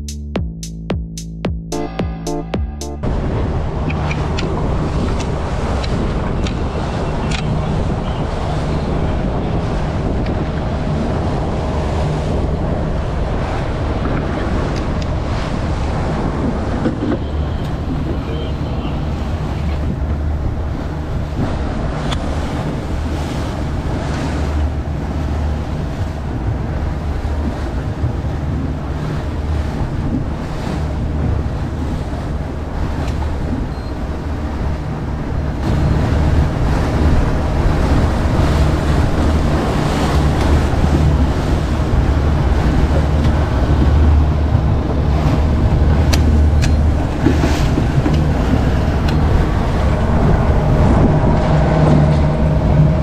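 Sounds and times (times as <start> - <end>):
boat engine droning: 0.0 - 53.0
wake rushing: 3.0 - 53.0
wind buffeting microphone: 3.0 - 53.0.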